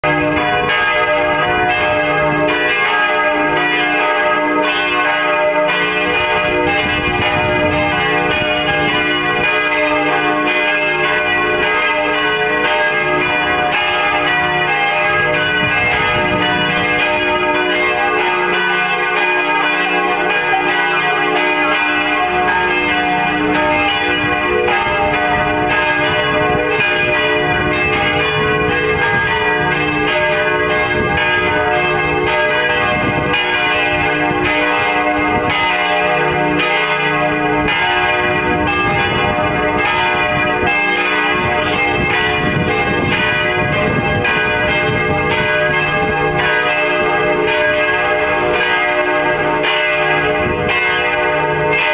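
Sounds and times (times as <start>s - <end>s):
church bells ringing: 0.0s - 51.9s.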